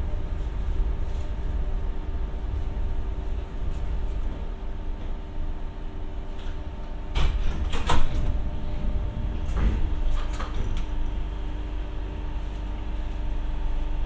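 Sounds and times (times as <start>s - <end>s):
low rumble: 0.0s - 14.0s
train equipment humming: 0.0s - 14.0s.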